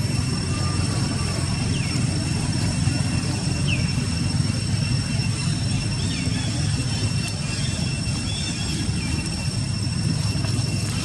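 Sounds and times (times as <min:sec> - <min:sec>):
high-pitched whine: 0:00.0 - 0:11.0
low rumbling background noise: 0:00.0 - 0:11.0.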